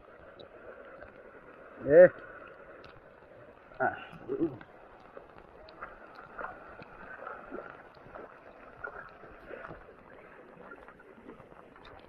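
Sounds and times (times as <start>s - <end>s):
floodwater running and splashing: 0.0s - 12.0s.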